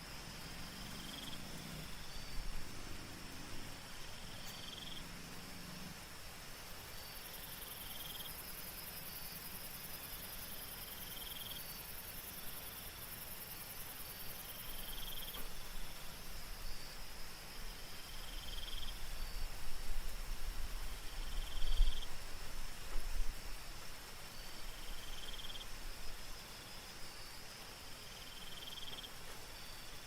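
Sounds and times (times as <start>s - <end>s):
insect pulsed chirp: 0.0s - 30.0s
light rain hiss: 0.0s - 30.0s.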